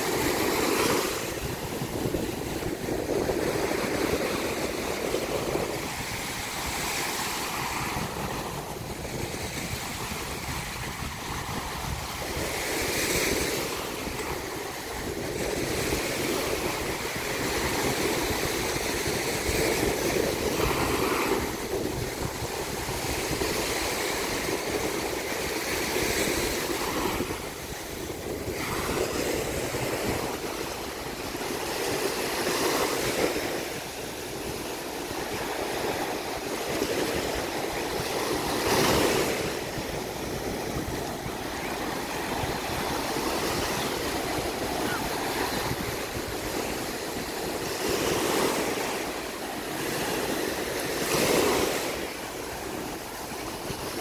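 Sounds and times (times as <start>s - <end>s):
small waves breaking on sand: 0.0s - 54.0s.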